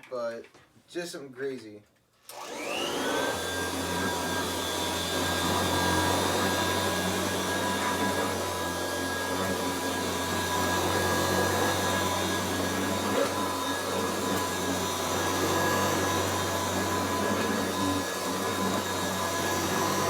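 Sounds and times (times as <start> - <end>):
vacuum cleaner running: 2.3 - 20.0.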